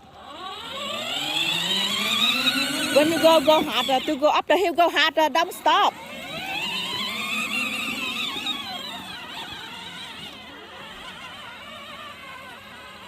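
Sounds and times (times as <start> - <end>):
toy car motors whining: 0.0 - 13.0.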